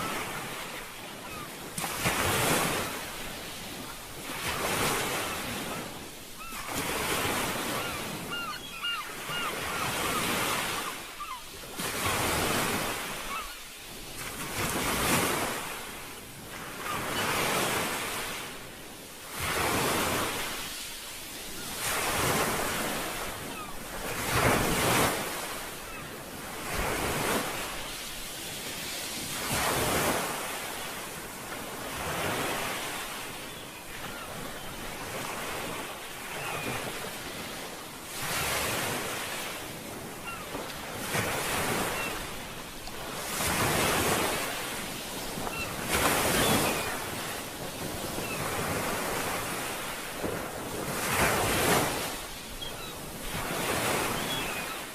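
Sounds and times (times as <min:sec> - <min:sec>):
sea waves washing in: 0:00.0 - 0:54.9.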